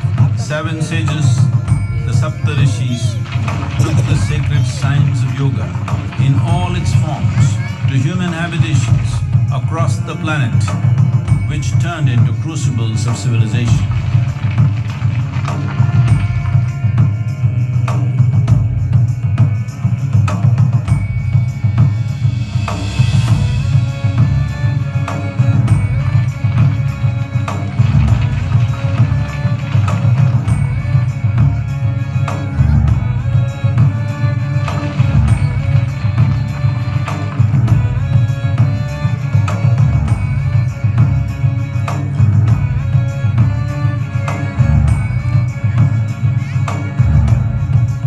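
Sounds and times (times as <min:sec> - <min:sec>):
percussion strokes: 0:00.0 - 0:48.0.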